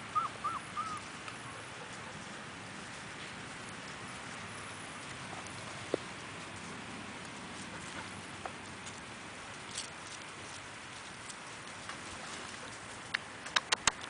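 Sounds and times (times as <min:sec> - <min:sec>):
puppy rustling in dry leaves: 0:00.0 - 0:13.6
outdoor hiss: 0:00.0 - 0:14.0.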